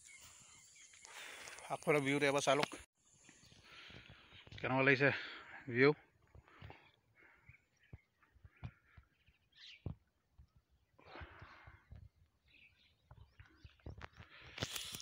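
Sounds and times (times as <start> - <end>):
faint bird chirp: 0.0 - 5.0, 6.5 - 14.5.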